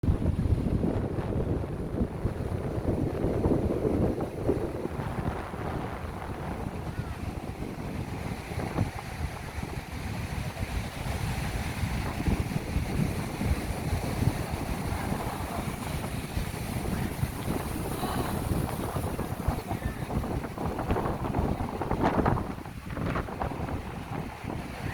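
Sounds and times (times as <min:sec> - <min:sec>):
surf breaking on shore: 0:00.0 - 0:24.9
wind buffeting microphone: 0:00.0 - 0:24.9.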